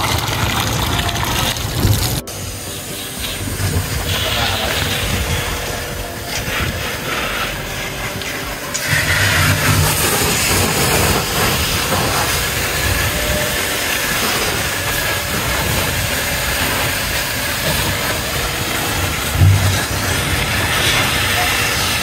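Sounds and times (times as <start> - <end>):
water jetting hiss: 0.0 - 22.0.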